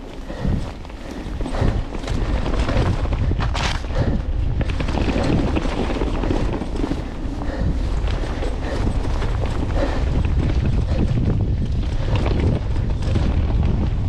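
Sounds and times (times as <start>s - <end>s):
bike rattling over roots: 0.0s - 14.0s
wind buffeting microphone: 0.0s - 14.0s.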